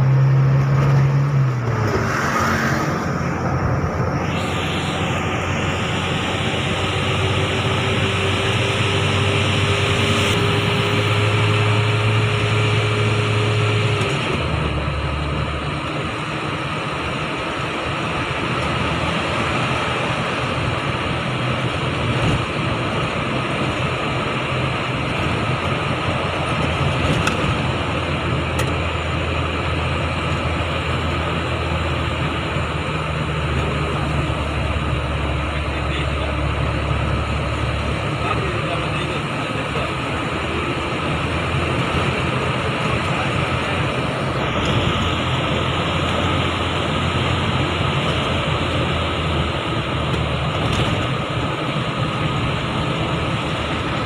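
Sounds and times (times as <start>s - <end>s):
car engine from inside cabin: 0.0s - 54.0s.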